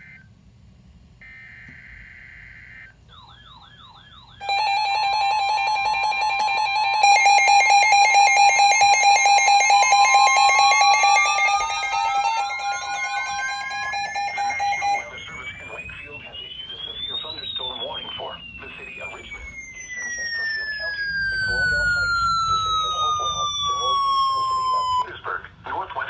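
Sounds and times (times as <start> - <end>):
pulsing beeping alarm tones: 1.2 - 25.0
screechy data tone: 1.2 - 25.0
warbling tone: 3.2 - 25.0.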